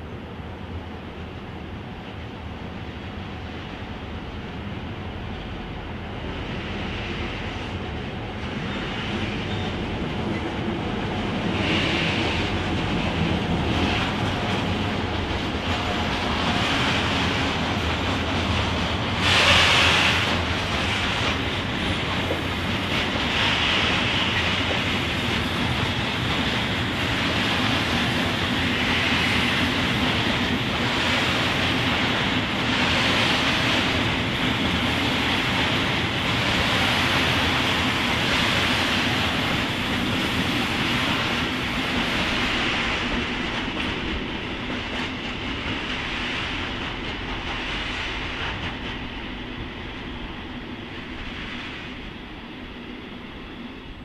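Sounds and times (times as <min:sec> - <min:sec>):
train wheels clattering on rails: 0:06.3 - 0:50.3.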